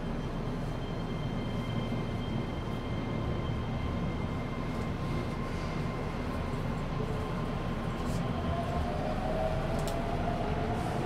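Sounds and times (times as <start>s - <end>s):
train equipment rumble and hum: 0.0s - 11.0s.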